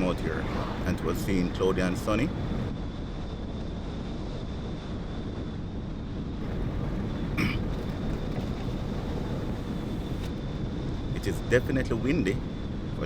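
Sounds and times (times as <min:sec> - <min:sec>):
vehicle rumble on asphalt: 0:00.0 - 0:13.0
wind buffeting microphone: 0:00.0 - 0:13.0.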